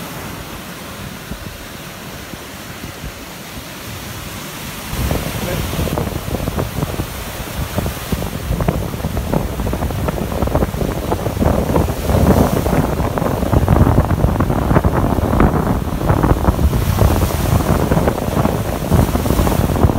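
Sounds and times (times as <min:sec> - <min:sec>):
surf breaking on beach: 0:00.0 - 0:19.9
wind buffeting microphone: 0:00.0 - 0:19.9.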